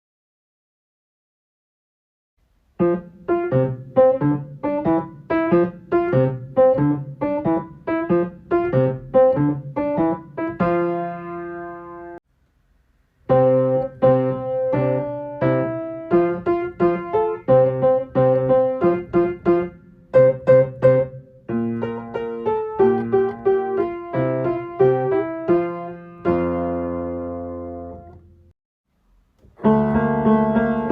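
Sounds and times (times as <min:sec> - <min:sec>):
piano accompaniment: 0:02.7 - 0:12.2, 0:13.2 - 0:28.5, 0:29.4 - 0:30.9.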